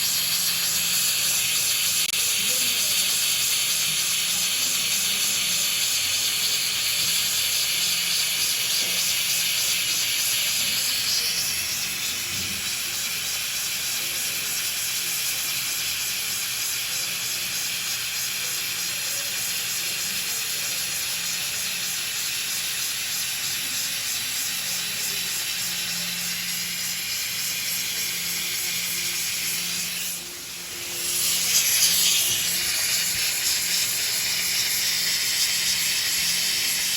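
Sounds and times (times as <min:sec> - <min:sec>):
hot-air welding gun hissing: 0:00.0 - 0:36.9.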